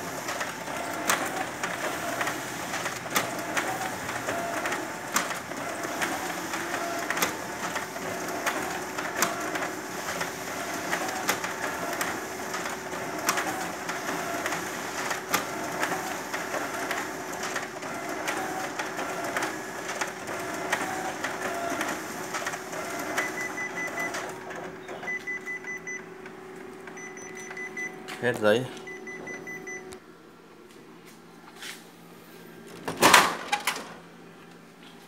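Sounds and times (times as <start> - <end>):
photocopier mechanical whir: 0.0 - 30.0, 31.5 - 35.0.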